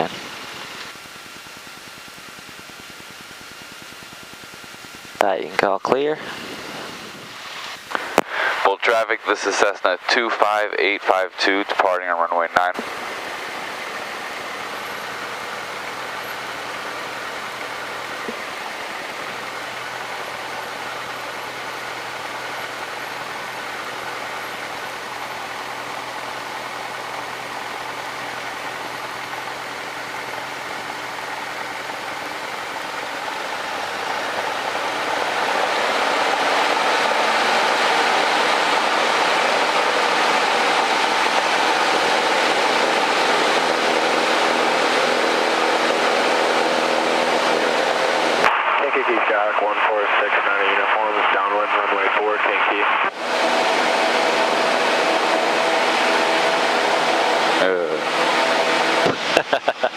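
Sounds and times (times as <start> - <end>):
airplane engine from cockpit: 0.0 - 59.9.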